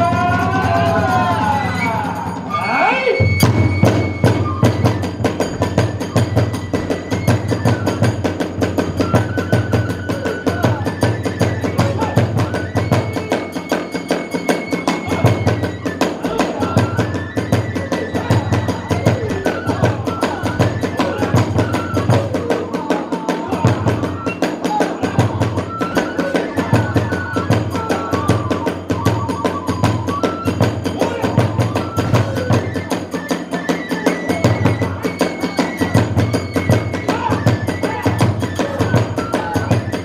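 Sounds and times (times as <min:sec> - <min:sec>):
bamboo flute melody: 0:00.0 - 0:40.0.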